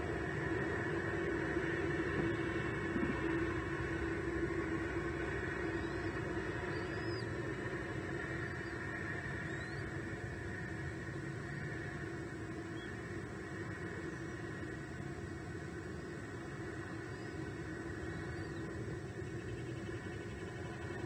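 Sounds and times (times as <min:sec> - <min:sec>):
low rumble and hum: 0:00.0 - 0:21.0.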